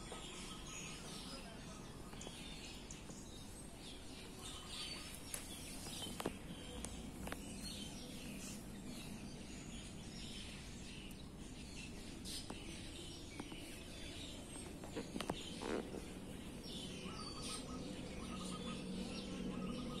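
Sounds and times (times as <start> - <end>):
birds chirping: 0.0 - 20.0
low outdoor background noise: 0.0 - 20.0.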